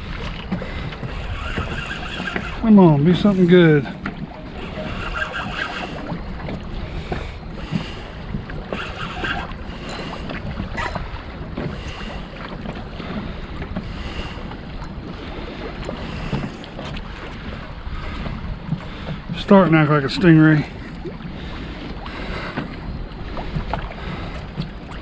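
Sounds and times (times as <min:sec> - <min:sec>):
water lapping against boat hull: 0:00.0 - 0:25.0
wind buffeting microphone: 0:00.0 - 0:25.0.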